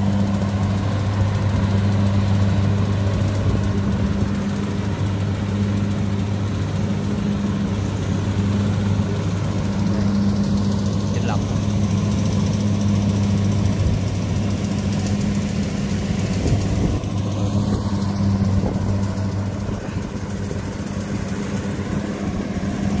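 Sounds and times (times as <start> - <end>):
combine harvester engine running: 0.0 - 23.0.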